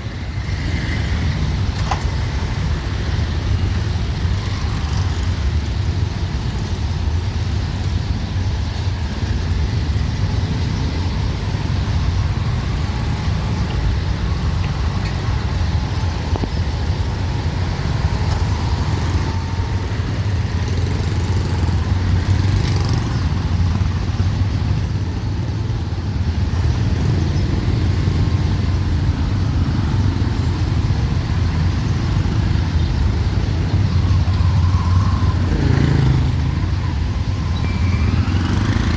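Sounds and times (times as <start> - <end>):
dense city traffic rumble: 0.0 - 38.9.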